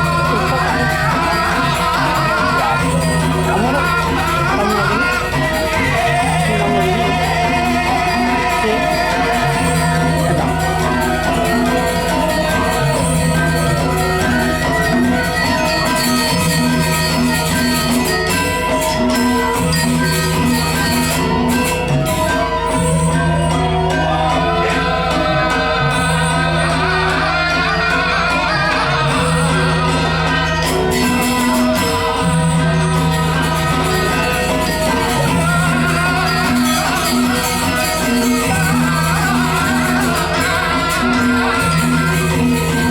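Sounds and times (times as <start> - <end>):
gamelan dance music: 0.0 - 42.9.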